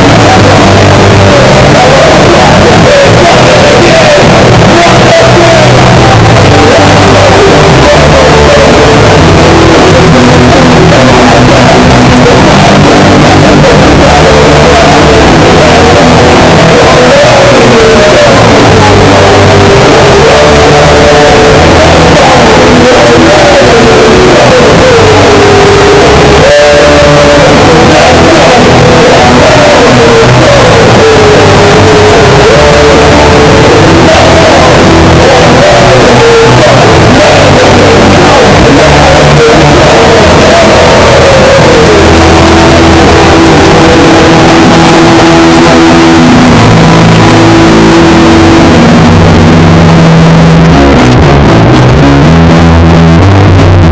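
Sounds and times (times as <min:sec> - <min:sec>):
punk band playing instrumental: 0:00.0 - 0:53.9.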